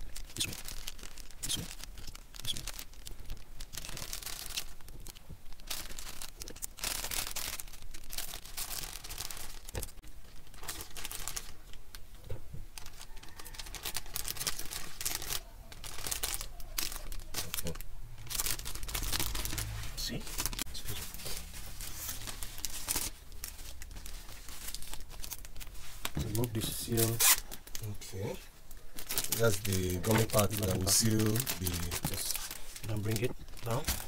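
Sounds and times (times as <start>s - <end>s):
plastic bag crinkling: 0.0s - 34.0s.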